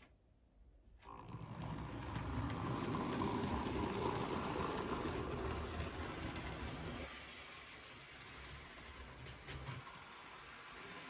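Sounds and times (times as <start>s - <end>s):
model train rumbling on rails: 1.1s - 11.0s.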